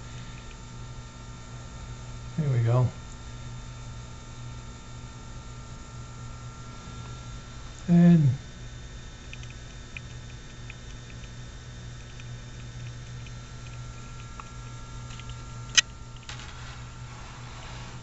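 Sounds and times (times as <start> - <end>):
small motors humming and ticking: 0.0 - 18.0.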